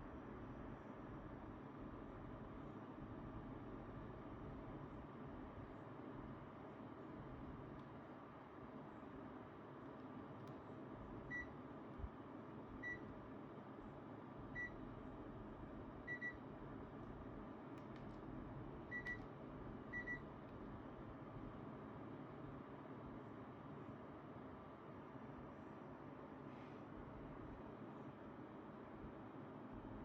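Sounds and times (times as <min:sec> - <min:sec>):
quiet fan hum: 0:00.0 - 0:30.0.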